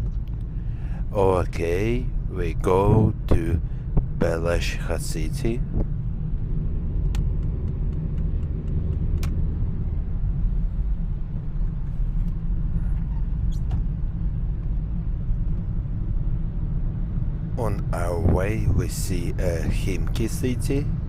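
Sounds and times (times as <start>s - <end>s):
road and engine rumble in car: 0.0s - 21.0s.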